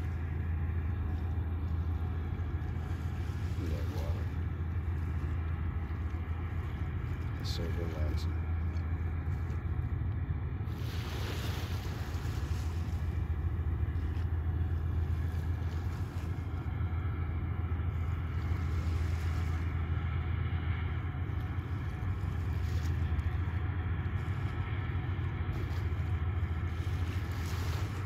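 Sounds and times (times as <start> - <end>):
small waves lapping on sand: 0.0 - 9.8, 10.7 - 17.1, 17.8 - 28.0
steady low rumble: 0.0 - 28.0.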